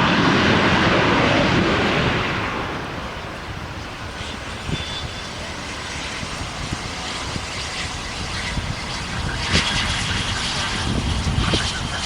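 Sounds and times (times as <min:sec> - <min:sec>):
jet engines running: 0:00.0 - 0:12.0
wind buffeting microphone: 0:00.0 - 0:12.0.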